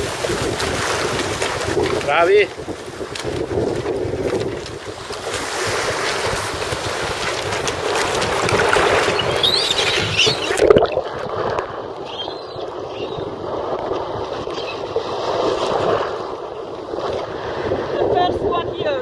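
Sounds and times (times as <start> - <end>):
small waves splashing on hulls: 0.0 - 19.0
wind on microphone: 0.0 - 19.0.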